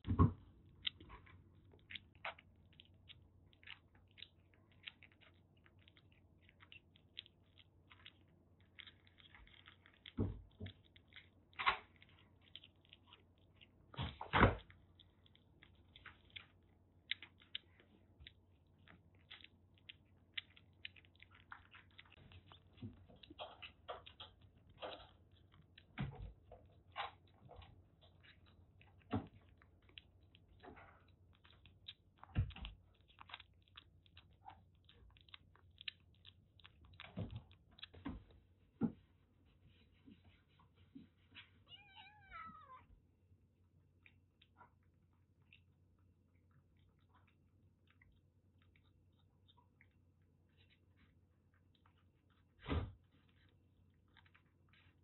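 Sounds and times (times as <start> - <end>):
kitten chewing wet food: 0.0 - 55.0.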